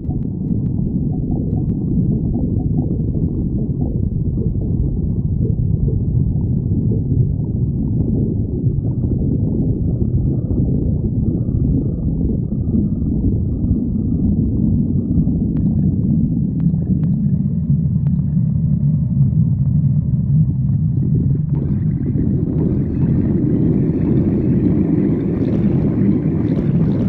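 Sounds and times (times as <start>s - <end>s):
stomach growling: 0.0s - 27.0s.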